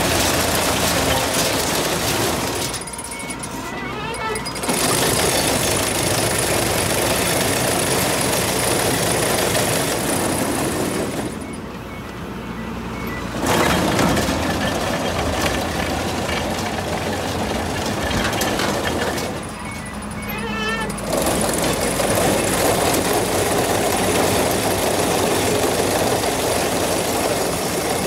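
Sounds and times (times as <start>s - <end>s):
engine running: 0.0s - 28.0s
machinery clattering: 0.0s - 28.0s.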